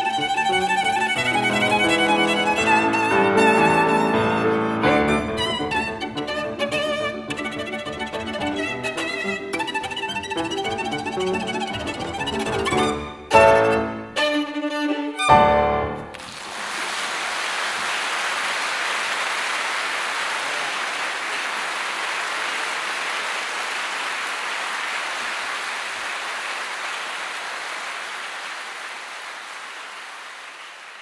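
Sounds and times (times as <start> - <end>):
audience applauding: 0.0 - 12.9, 16.0 - 31.0.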